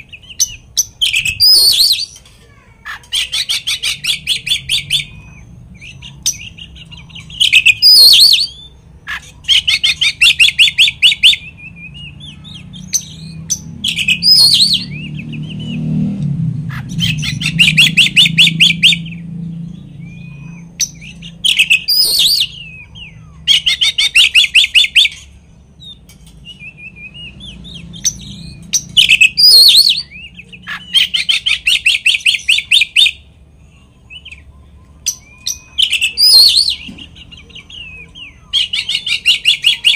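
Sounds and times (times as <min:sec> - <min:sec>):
bird song with trills and whistles: 0:00.0 - 0:02.3, 0:02.9 - 0:39.9.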